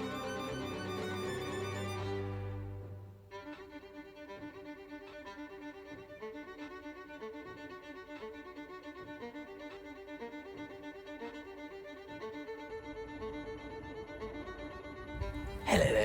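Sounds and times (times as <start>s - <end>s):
violin music: 0.0s - 16.0s.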